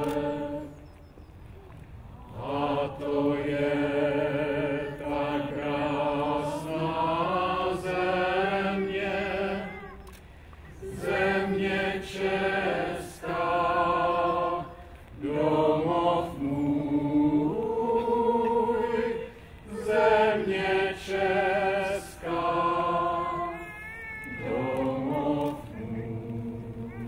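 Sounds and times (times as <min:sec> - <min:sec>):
group singing a slow song: 0:00.0 - 0:01.1, 0:02.2 - 0:09.8, 0:10.8 - 0:23.6, 0:24.3 - 0:27.0.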